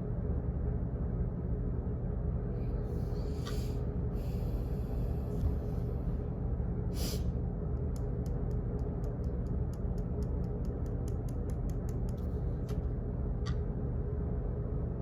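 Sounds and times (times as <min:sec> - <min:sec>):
low office hum: 0:00.0 - 0:15.0.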